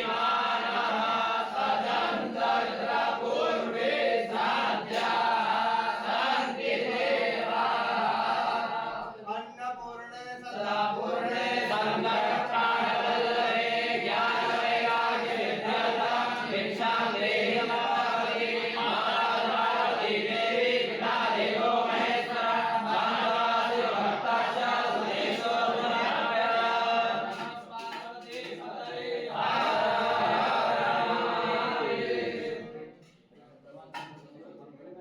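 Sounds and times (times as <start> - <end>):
group chanting in unison: 0.0 - 9.4, 10.4 - 33.1.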